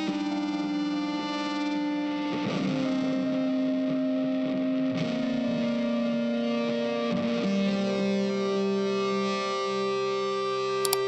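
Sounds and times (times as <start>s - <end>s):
distorted guitar chords: 0.0s - 11.0s.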